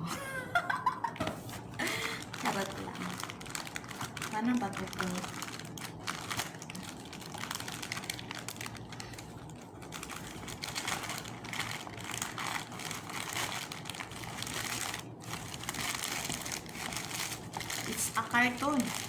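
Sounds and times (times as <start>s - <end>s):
packaging crinkling and rustling: 1.5s - 19.0s.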